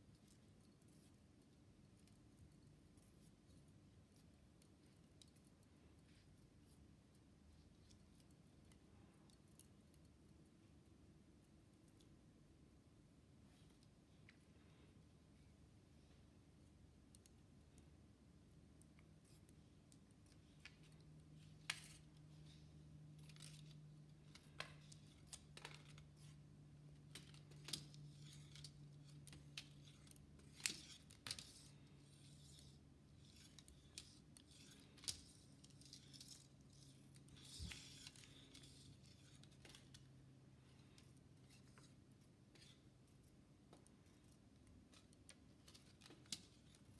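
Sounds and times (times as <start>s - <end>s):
small clicks and light taps: 0.0s - 12.3s, 16.0s - 31.9s, 33.3s - 46.9s.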